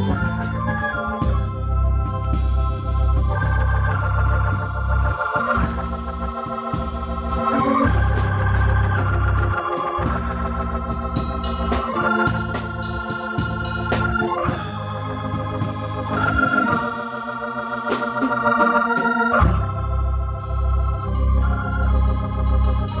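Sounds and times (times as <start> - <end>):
drums and cymbals: 0.0 - 20.9
deep bass notes: 0.0 - 23.0
organ playing gospel chords: 0.0 - 23.0.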